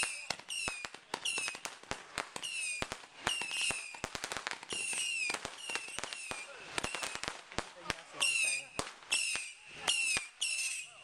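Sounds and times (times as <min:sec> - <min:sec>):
fireworks cracking: 0:00.0 - 0:11.0
fireworks whistling: 0:00.0 - 0:11.0.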